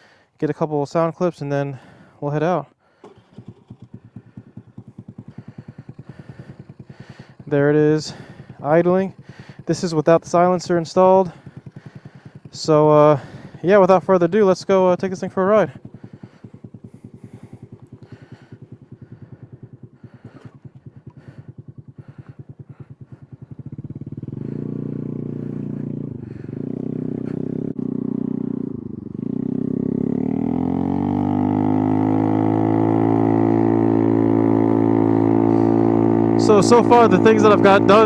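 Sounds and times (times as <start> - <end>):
scooter engine idling and revving: 0.0 - 38.0.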